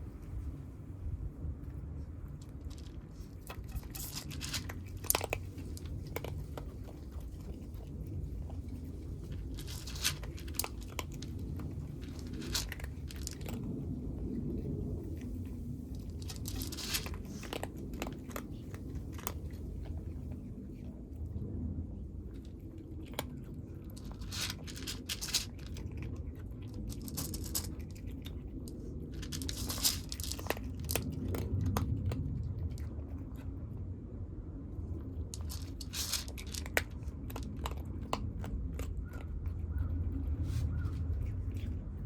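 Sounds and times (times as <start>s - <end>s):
kittens crunching cat food: 0.0s - 42.0s
steady low rumble: 0.0s - 42.0s.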